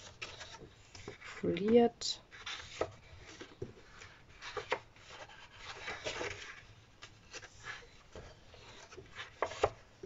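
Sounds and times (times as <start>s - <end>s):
paper sheets rustling: 0.0s - 10.0s.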